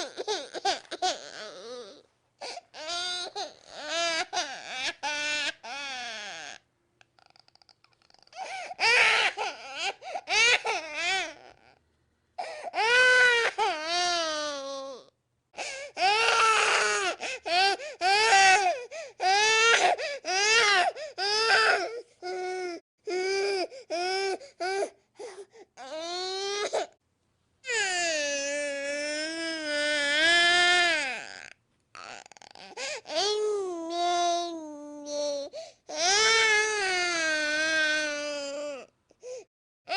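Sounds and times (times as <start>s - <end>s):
baby crying: 0.0s - 6.6s, 8.1s - 11.8s, 12.4s - 25.0s, 27.7s - 38.9s.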